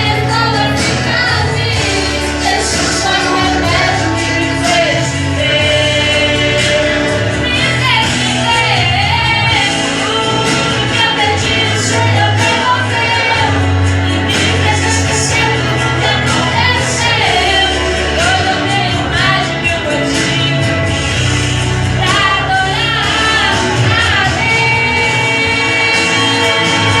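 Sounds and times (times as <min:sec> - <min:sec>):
steady music accompaniment: 0:00.0 - 0:27.0
woman singing worship song: 0:00.0 - 0:27.0.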